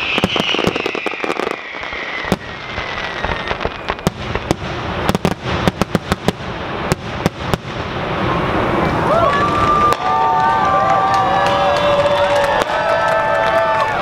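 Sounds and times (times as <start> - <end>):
falling firework whistle: 0.0 - 5.8, 8.2 - 13.9
fireworks bangs and crackling pops: 0.0 - 13.9.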